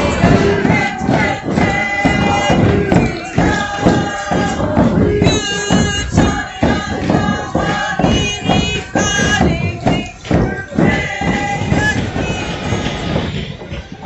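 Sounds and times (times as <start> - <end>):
thumping beat: 0.0 - 14.0
voices singing: 0.0 - 14.0.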